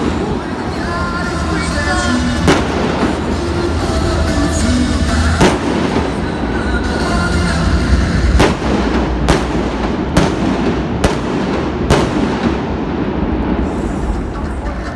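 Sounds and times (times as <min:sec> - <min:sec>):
fireworks bangs: 0:00.0 - 0:14.9
steady background din: 0:00.0 - 0:14.9.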